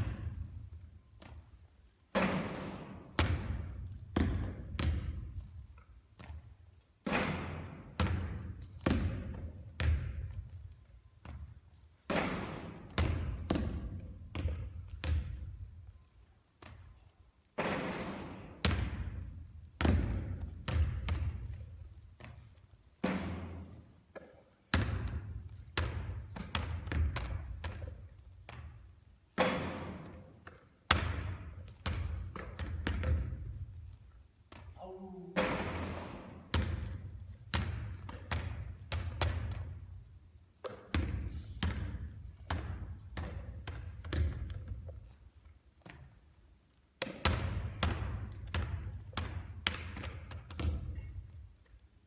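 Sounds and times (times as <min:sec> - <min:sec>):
basketball bouncing on court floor: 0:00.0 - 0:15.7, 0:16.6 - 0:17.0, 0:17.6 - 0:34.8, 0:35.4 - 0:45.2, 0:45.8 - 0:46.3, 0:47.0 - 0:51.4.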